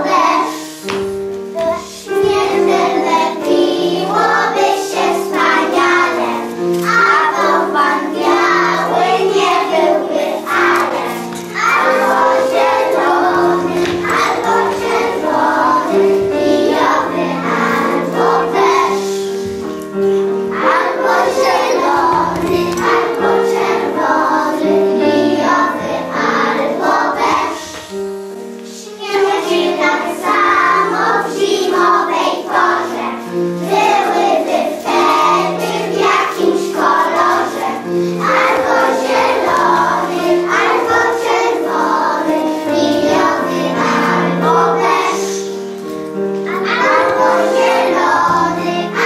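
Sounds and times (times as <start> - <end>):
children singing together: 0.0 - 28.0, 28.6 - 49.0
instrumental accompaniment: 0.0 - 49.0.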